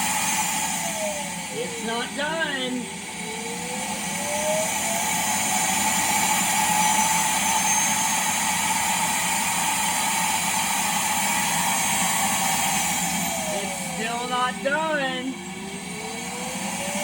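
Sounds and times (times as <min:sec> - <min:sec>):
vacuum suction motor whining: 0:00.0 - 0:17.0.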